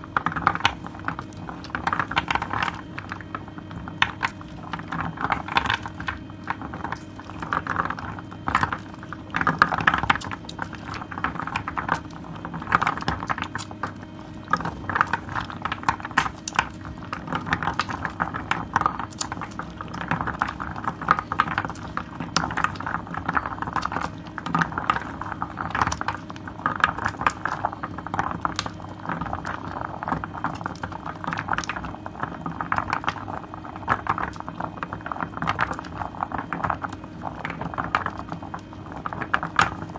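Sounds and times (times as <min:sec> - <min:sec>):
foam bubbles crackling and popping: 0:00.0 - 0:39.9
hands squishing soap lather: 0:00.0 - 0:39.9.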